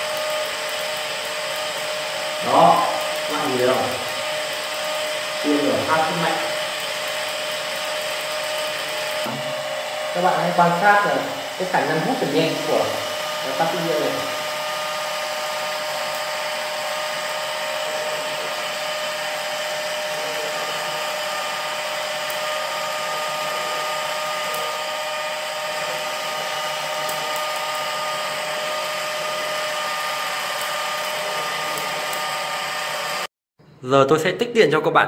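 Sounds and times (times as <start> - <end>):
small electric motor whirring: 0.0 - 33.3.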